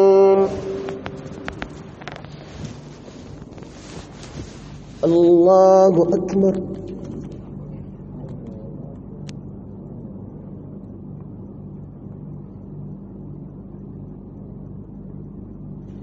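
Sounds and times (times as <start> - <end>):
faint rumble: 0.0 - 16.0
low sound system hum: 0.0 - 16.0.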